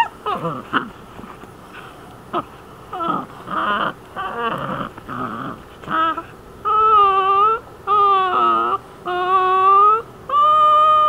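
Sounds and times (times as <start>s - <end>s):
puppy whining and yelping: 0.0s - 11.0s.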